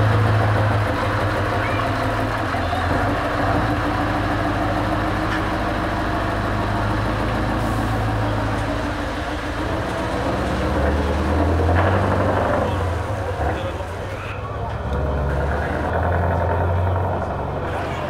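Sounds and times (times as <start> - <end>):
truck diesel engine at low revs: 0.0 - 18.0.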